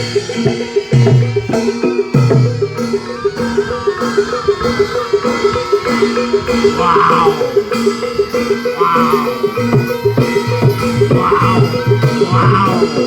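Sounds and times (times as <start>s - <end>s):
drums: 0.0s - 13.0s
struck pitched percussion: 0.0s - 13.0s.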